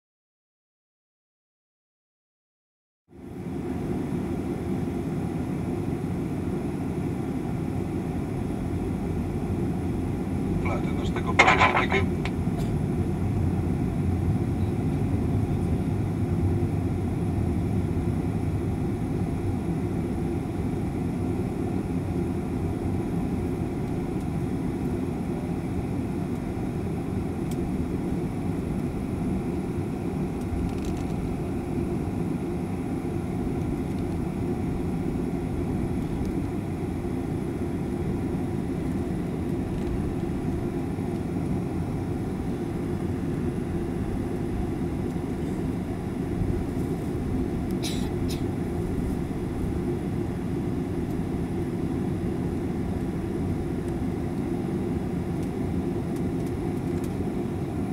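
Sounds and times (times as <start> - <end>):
jet engines rumbling: 3.1 - 57.9.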